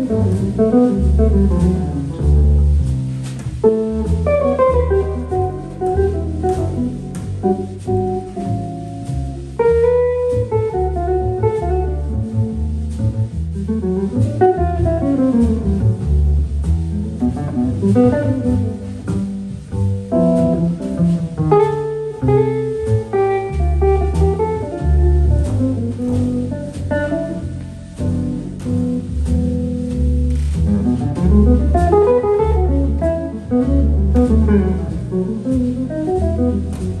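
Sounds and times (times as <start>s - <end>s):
drums keeping time: 0.0s - 37.0s
electric guitar melody: 0.0s - 37.0s
upright bass walking: 0.0s - 37.0s.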